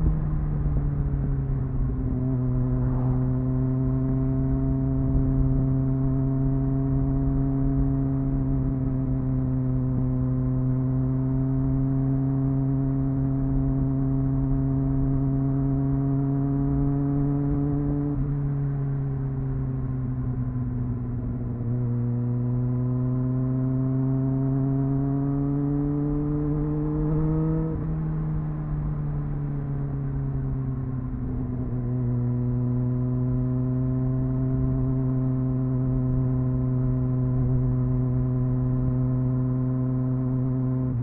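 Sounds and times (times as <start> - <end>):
motorcycle engine while riding: 0.0 - 41.0.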